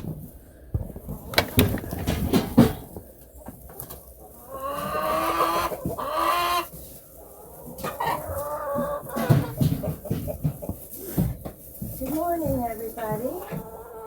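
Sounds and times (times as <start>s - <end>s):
chickens calling: 0.0s - 14.0s.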